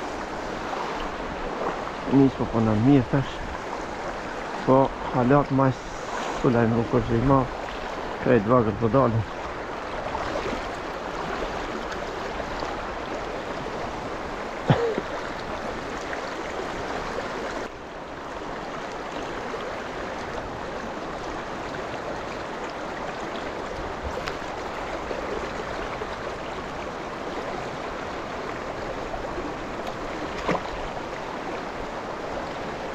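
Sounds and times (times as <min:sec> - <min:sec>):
river water running: 0:00.0 - 0:32.9.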